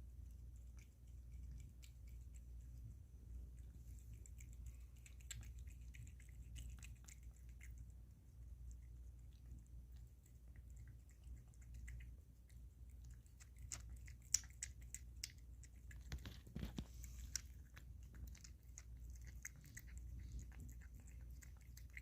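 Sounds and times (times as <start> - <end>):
kitten chewing food: 0.0 - 22.0.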